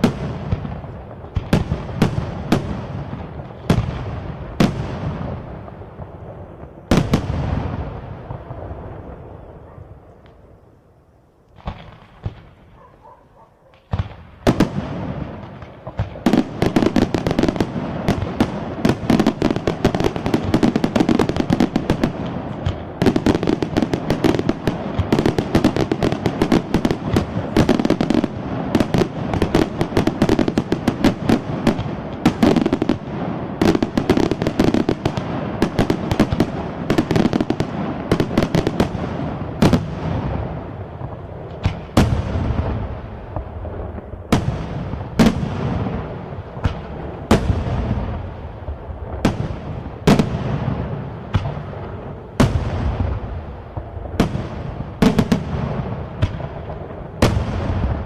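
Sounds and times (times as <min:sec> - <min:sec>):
fireworks bursts and crackling: 0:00.0 - 0:10.7, 0:11.5 - 0:58.0
fireworks bangs: 0:00.0 - 0:10.8, 0:11.5 - 0:58.0.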